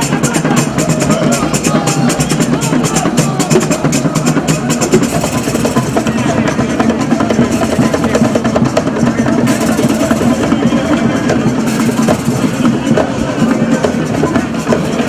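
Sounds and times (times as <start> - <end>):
loud drum-driven music: 0.0 - 15.0.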